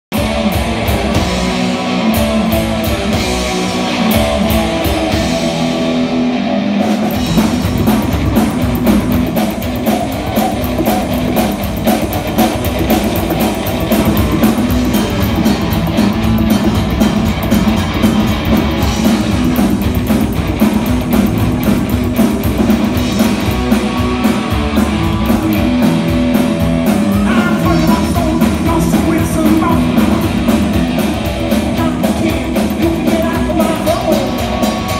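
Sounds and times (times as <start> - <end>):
rock and roll band playing: 0.1 - 34.9.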